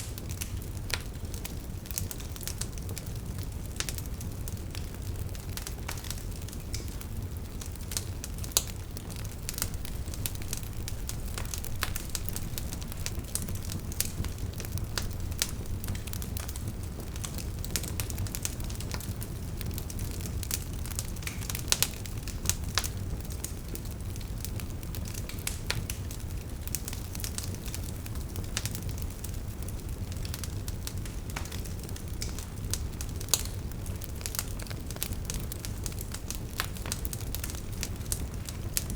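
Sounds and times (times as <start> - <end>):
logs crackling and popping: 0.0 - 38.9
low rumble of flames: 0.0 - 38.9.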